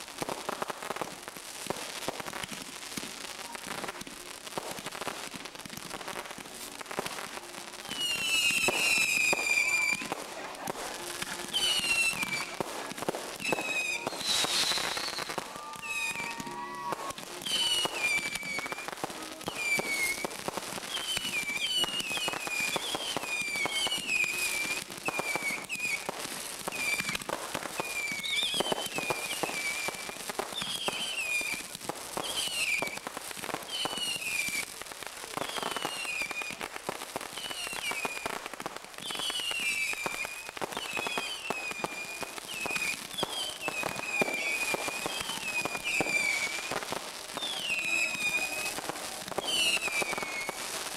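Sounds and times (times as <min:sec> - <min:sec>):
fireworks pops and bangs: 0:00.0 - 0:50.9
descending firework whistles: 0:07.8 - 0:50.9.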